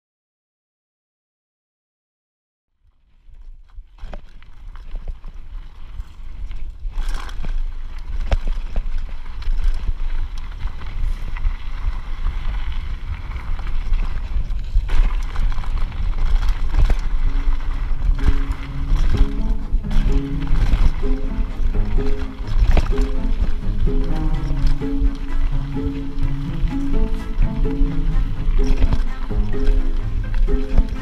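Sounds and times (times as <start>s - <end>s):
bike rattling and clicking: 2.8s - 31.0s
tyres on dirt trail: 2.8s - 31.0s
wind buffeting microphone: 4.9s - 31.0s.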